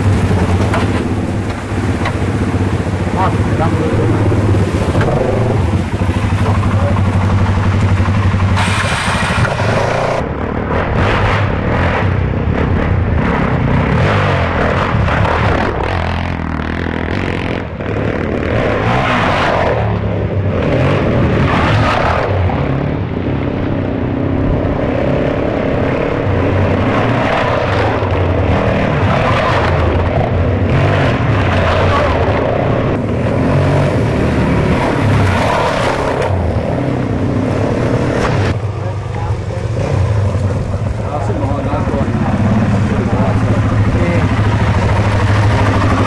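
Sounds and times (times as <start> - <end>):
dirt bike engine running: 0.0 - 46.0
rushing noise: 0.0 - 46.0.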